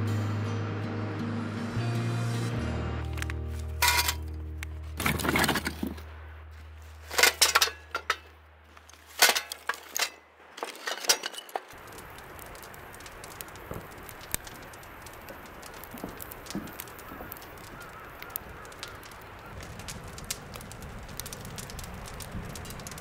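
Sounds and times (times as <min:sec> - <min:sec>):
wood fire crackling: 0:02.4 - 0:23.0
firewood clattering on steel: 0:03.2 - 0:06.1, 0:06.8 - 0:23.0.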